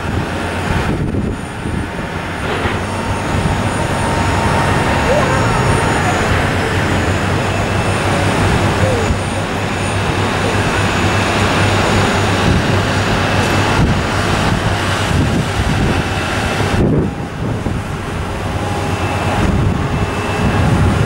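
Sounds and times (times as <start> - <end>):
jet engines running: 0.0 - 21.0
low hum: 0.0 - 21.0.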